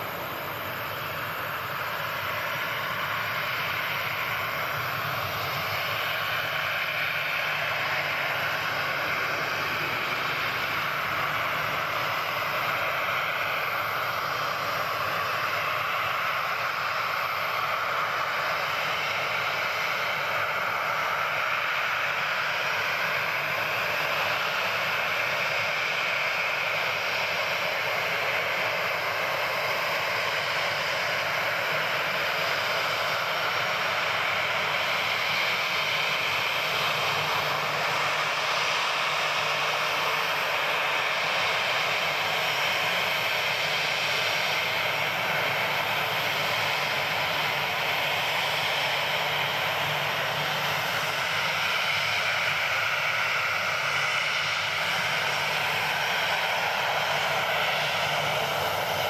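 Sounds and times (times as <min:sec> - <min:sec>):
jet engines running at low power: 0:00.0 - 0:59.0.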